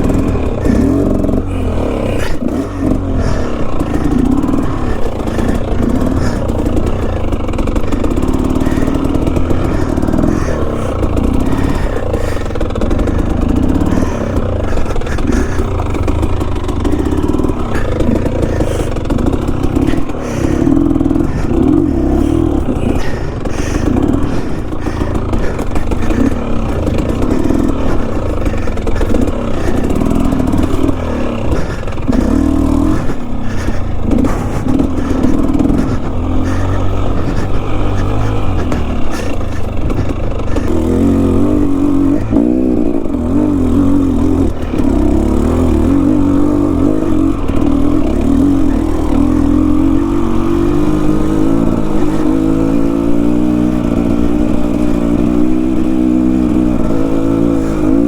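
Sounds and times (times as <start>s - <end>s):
bike clattering over rough ground: 0.0s - 58.0s
dirt bike engine revving: 0.0s - 58.0s.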